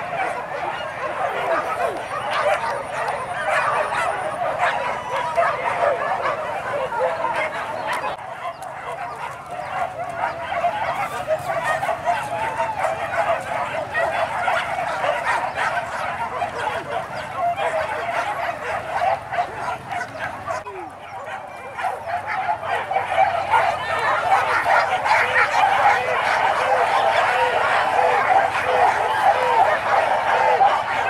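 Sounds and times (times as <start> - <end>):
dogs barking and yelping: 0.0 - 31.0.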